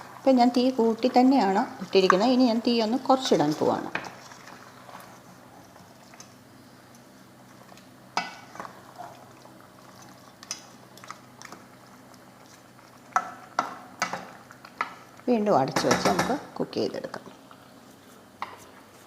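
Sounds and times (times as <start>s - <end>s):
low simmer: 0.0s - 15.4s.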